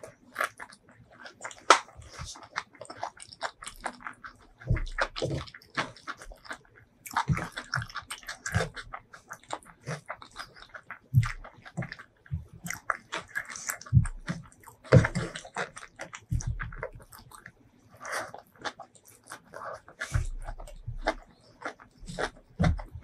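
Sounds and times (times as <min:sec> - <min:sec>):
mouth chewing with wet smacks: 0:00.0 - 0:23.0.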